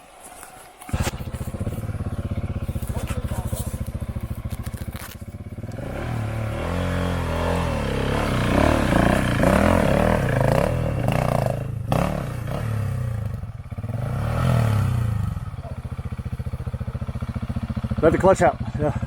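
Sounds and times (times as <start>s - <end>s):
motorcycle engine revving: 0.9s - 19.0s.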